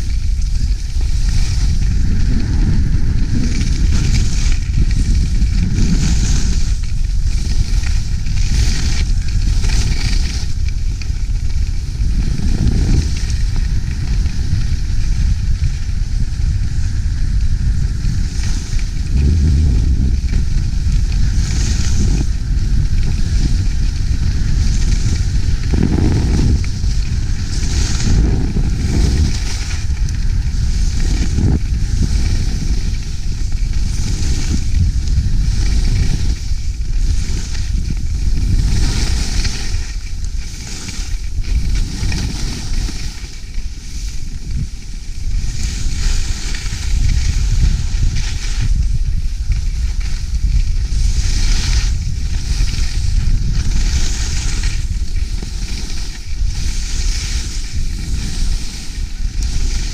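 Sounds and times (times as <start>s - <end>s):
skis carving on snow: 0.0s - 59.9s
wind rumble on microphone: 0.0s - 59.9s.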